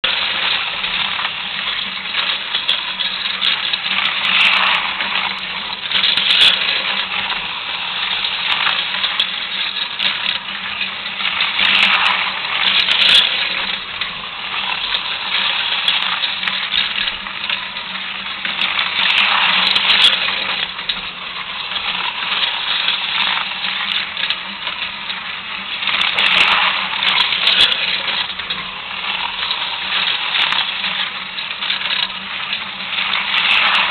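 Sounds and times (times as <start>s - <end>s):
faint steady hum: 0.0s - 33.9s
slot car motors buzzing rattle: 0.0s - 33.9s.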